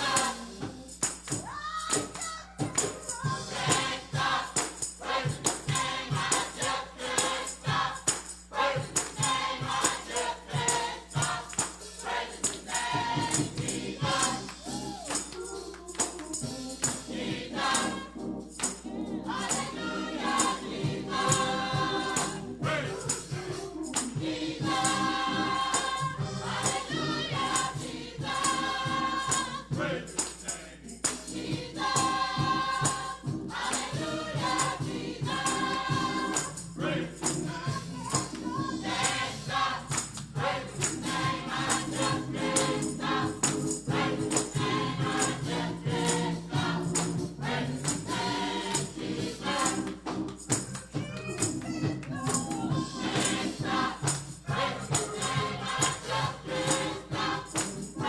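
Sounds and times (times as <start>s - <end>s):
gospel choir singing: 0.0s - 1.5s, 2.1s - 58.0s
instruments with steady beat: 0.0s - 58.0s.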